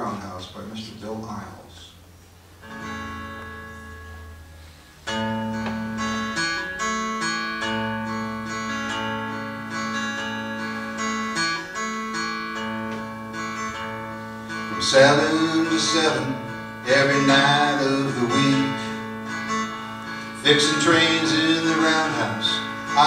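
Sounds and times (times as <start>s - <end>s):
acoustic guitar picking chords: 0.0s - 23.0s.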